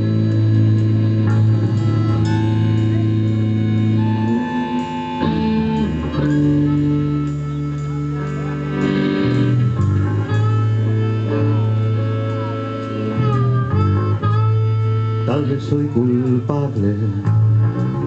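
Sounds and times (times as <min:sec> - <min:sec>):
bass line: 0:00.0 - 0:18.0
blues guitar notes: 0:00.0 - 0:18.0.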